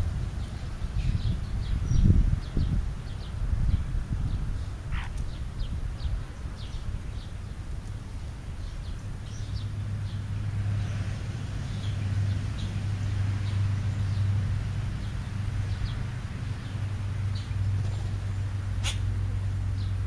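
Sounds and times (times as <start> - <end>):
low engine hum: 0.0 - 20.0
small birds chirping: 0.4 - 20.0.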